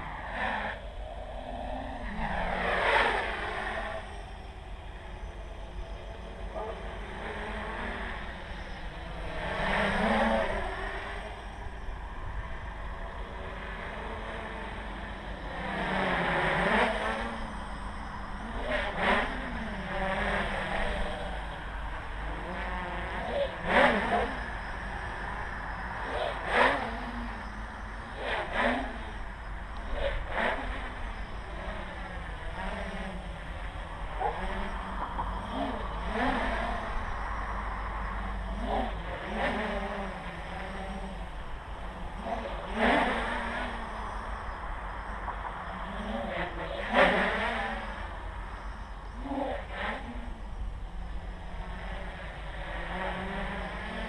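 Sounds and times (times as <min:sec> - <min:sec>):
drone motors whining: 0:00.0 - 0:54.0
low steady rumble: 0:00.0 - 0:54.0.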